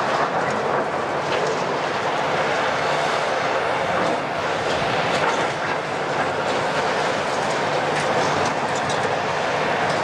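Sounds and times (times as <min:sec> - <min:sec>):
excavator diesel engine running: 0:00.0 - 0:10.0
steel tracks clanking: 0:00.0 - 0:10.0.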